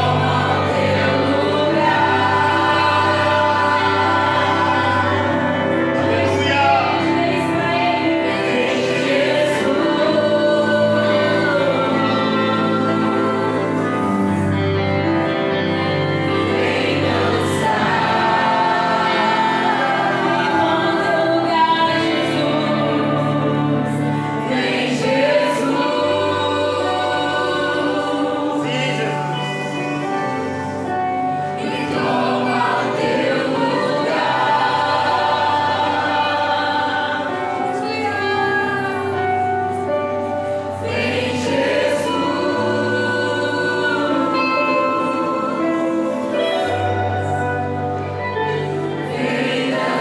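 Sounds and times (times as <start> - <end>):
choir singing worship music: 0.0 - 50.0
steady bass accompaniment: 0.0 - 50.0.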